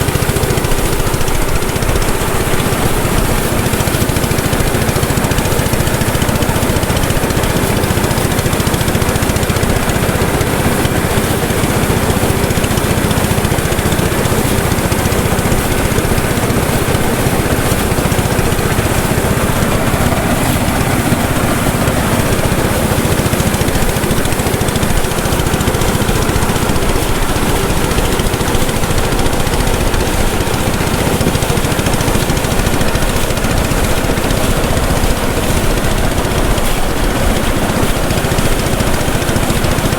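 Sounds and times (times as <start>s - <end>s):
thresher engine running: 0.0s - 39.9s.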